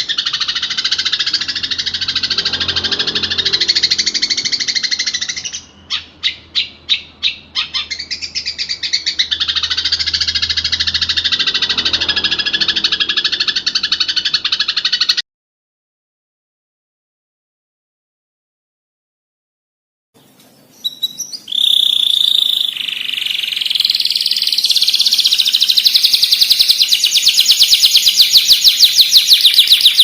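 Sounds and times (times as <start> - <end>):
sharp bird notes: 0.0 - 15.2, 20.2 - 30.0
shrike chattering song: 0.0 - 15.2, 20.2 - 30.0.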